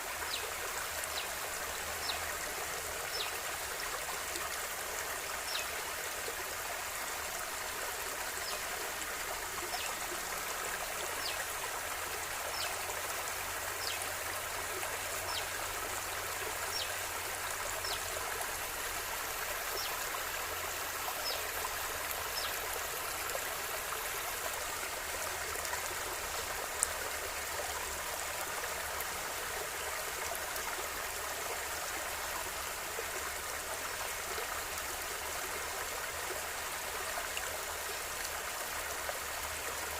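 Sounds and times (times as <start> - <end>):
river rushing and trickling: 0.0 - 39.9.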